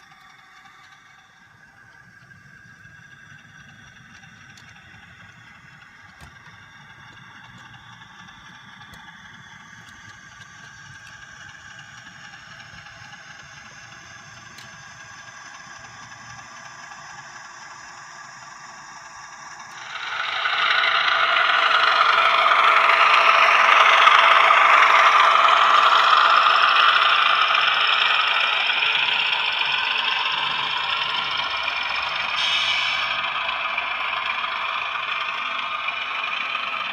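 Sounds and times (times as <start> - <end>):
model locomotive hum: 0.0 - 36.9
model train rattling on track: 0.0 - 36.9.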